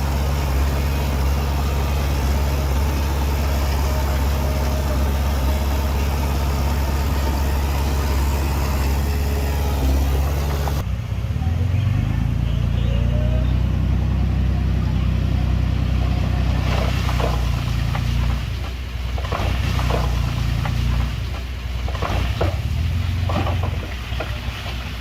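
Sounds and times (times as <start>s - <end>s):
diesel machinery engine running: 0.0s - 25.0s.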